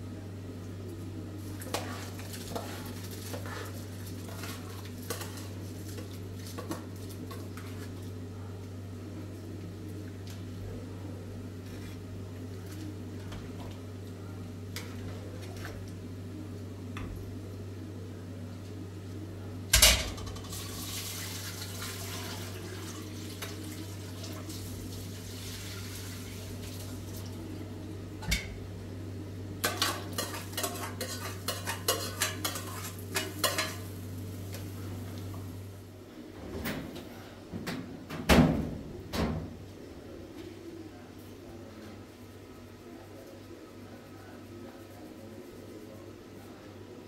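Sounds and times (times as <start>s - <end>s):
steady low hum: 0.0s - 20.8s, 24.6s - 38.0s, 38.8s - 47.0s.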